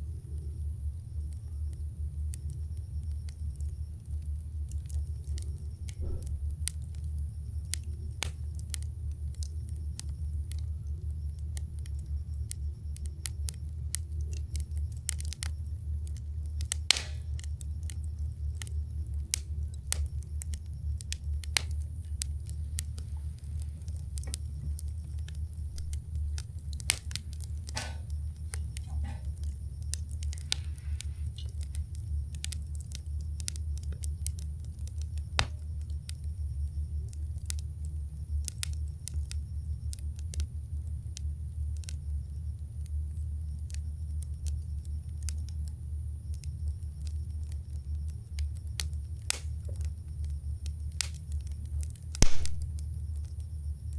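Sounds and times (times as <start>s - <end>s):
campfire crackling and popping: 0.0s - 53.9s
steady low rumble: 0.0s - 53.9s.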